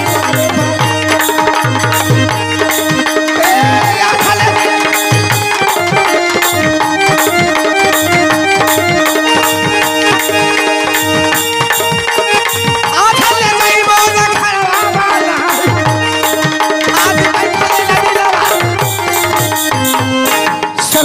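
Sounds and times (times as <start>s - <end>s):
folk melody in held notes: 0.0s - 21.0s
hand drums beating: 0.0s - 21.0s.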